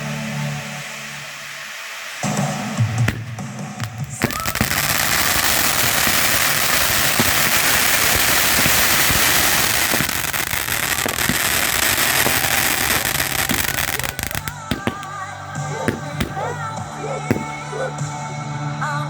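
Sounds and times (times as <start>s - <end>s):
fireworks popping rapidly: 2.3s - 18.2s.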